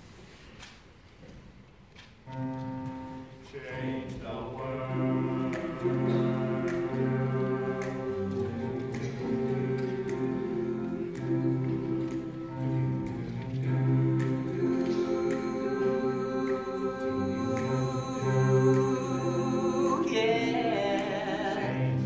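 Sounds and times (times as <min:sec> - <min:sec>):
boys choir singing a cappella: 0:03.4 - 0:22.0.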